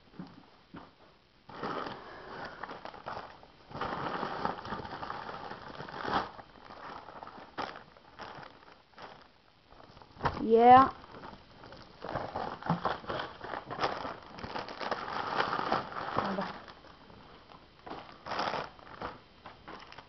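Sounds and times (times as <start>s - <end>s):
plastic packaging crinkling: 1.5s - 20.0s.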